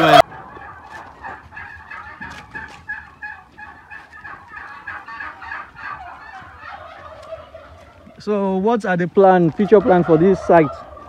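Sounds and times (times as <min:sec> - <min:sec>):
turkeys gobbling: 0:00.0 - 0:11.0.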